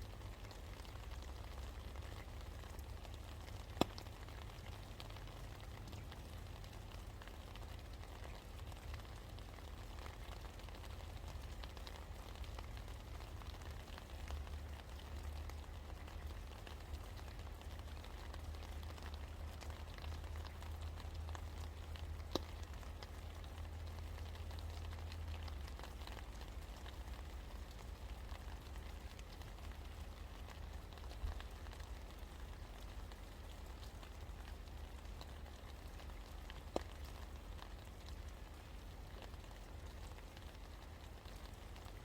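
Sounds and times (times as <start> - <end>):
rain drops ticking: 0.0 - 42.0.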